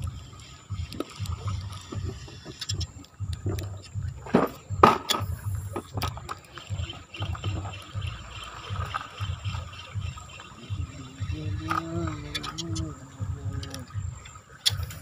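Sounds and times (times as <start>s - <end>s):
fishing reel whirring: 0.0s - 15.0s
water sloshing around boat: 0.0s - 15.0s.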